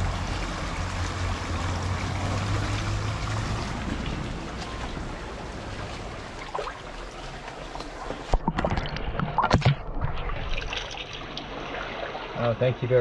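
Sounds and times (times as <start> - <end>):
sharp splashes and knocks: 0.0 - 12.4
creek water running: 0.0 - 13.0.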